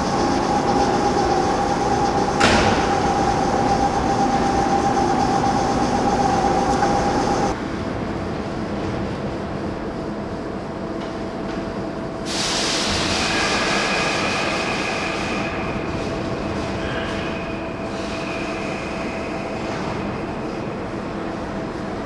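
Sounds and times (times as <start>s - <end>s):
subway train rumbling on rails: 0.0s - 22.0s.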